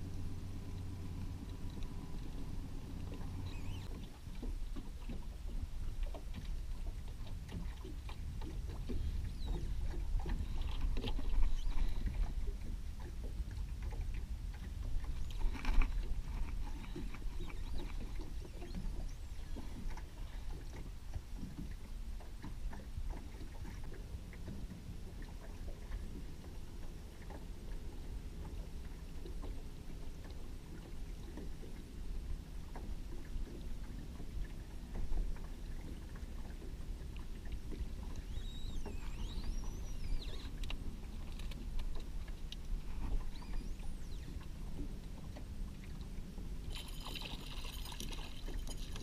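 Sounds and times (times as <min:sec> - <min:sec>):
low wind rumble: 0:00.0 - 0:49.0
water lapping against boat hull: 0:00.0 - 0:49.0.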